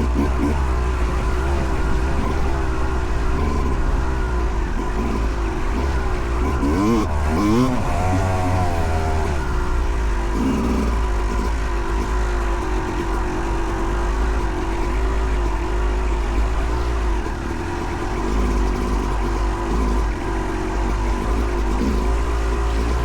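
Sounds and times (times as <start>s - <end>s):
two-stroke dirt bike engine running: 0.0s - 23.0s.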